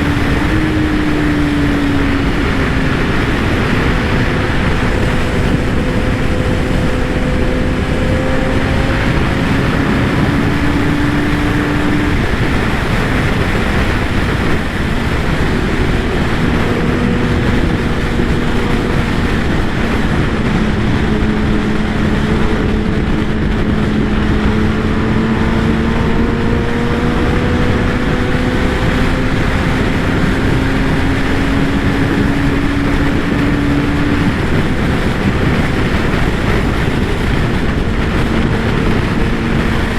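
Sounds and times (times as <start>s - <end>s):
motorcycle engine: 0.0s - 39.9s
wind rush over microphone: 0.0s - 39.9s.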